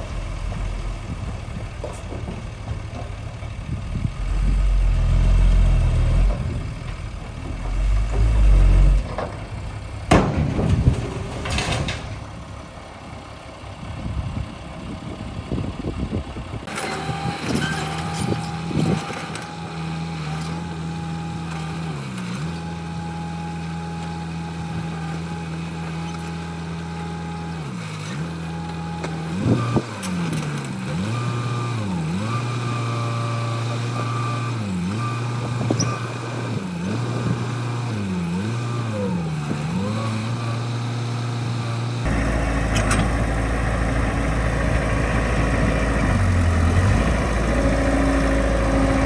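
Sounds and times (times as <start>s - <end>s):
heavy vehicle engine rumbling: 0.0s - 49.0s.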